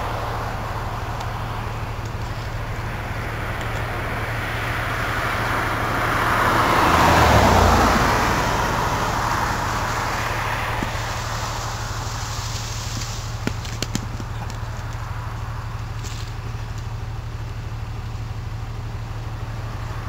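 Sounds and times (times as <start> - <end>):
car passing by: 0.0 - 16.9.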